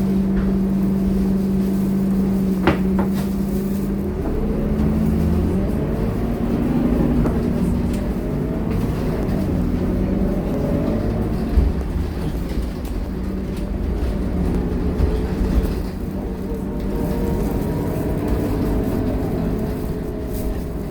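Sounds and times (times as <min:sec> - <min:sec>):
bus diesel engine under load: 0:00.0 - 0:20.9.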